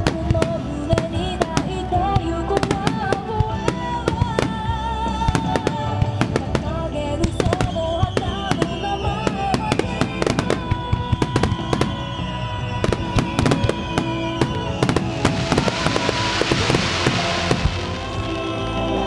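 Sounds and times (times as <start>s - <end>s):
fireworks bangs: 0.0s - 19.0s
fireworks hissing crackle: 0.0s - 19.0s
music from loudspeakers: 0.0s - 19.0s.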